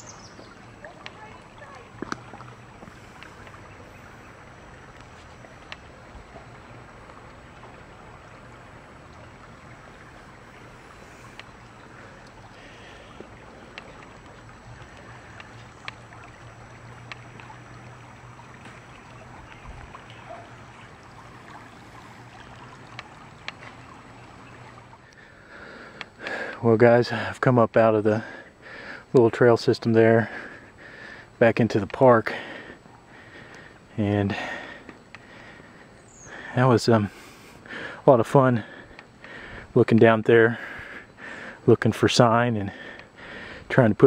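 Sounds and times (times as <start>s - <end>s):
creek water running over stones: 0.0s - 44.0s.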